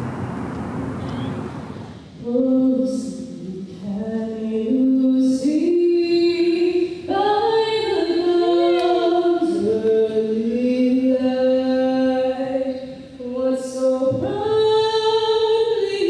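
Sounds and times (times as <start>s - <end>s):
a cappella vocal ensemble singing: 2.2s - 16.0s.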